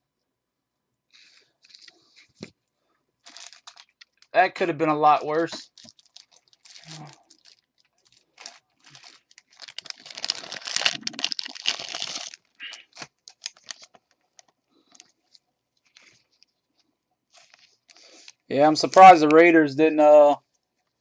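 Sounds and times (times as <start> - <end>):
plastic packaging crinkling: 1.2 - 2.5, 3.2 - 19.3.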